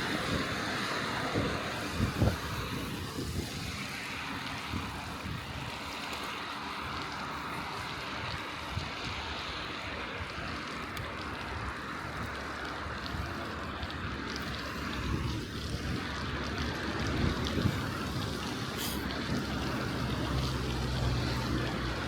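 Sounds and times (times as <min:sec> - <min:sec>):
tyres rolling on snow: 0:00.0 - 0:22.0
wind buffeting microphone: 0:00.0 - 0:22.0.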